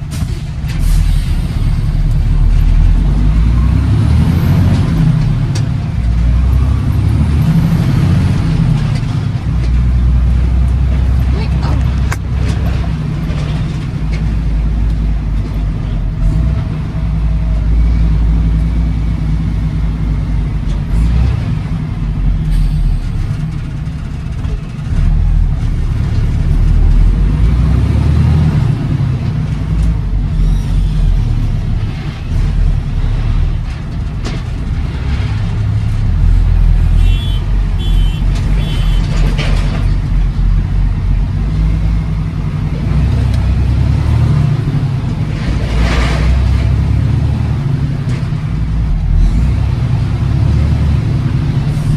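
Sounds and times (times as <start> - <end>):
truck engine rumble: 0.0 - 51.9.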